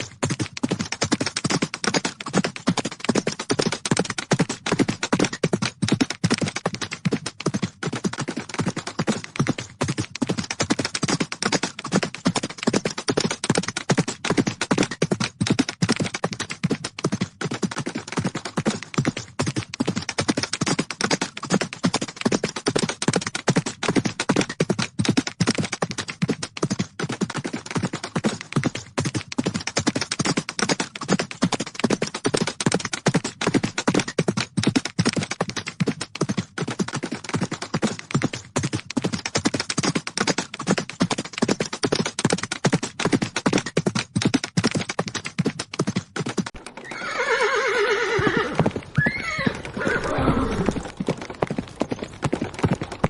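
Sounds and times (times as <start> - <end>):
horses galloping: 0.0 - 53.0.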